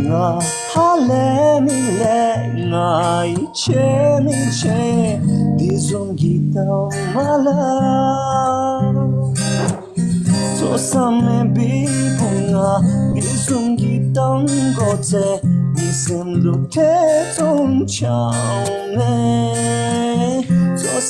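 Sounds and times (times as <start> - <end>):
person singing: 0.0 - 9.8, 10.4 - 21.0
acoustic guitar strumming chords: 0.0 - 21.0.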